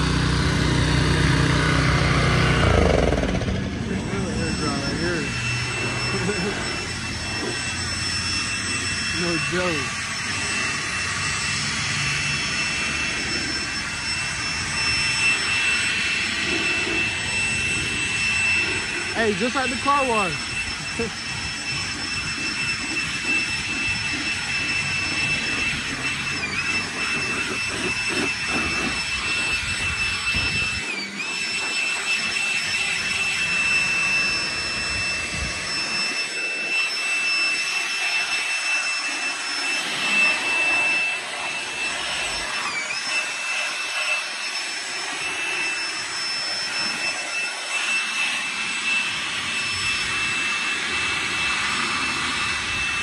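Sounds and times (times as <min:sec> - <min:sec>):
leaf blower whining: 0:00.0 - 0:53.0.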